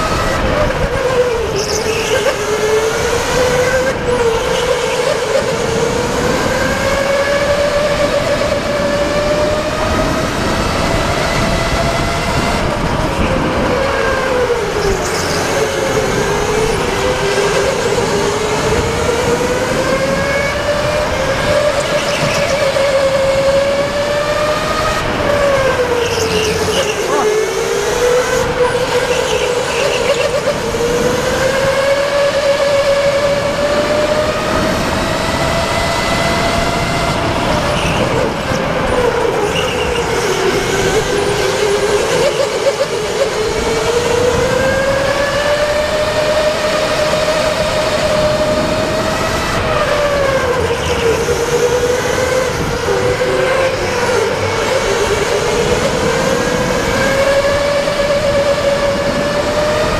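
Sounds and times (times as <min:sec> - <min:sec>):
go-kart motor whining: 0:00.0 - 0:59.9.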